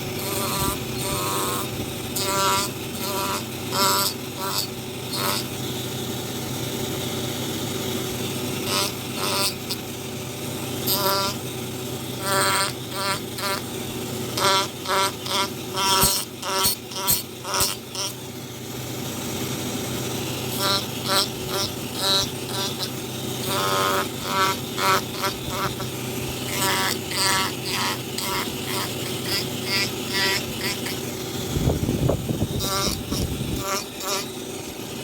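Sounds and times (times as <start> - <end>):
power carving tool buzzing: 0.0 - 35.0.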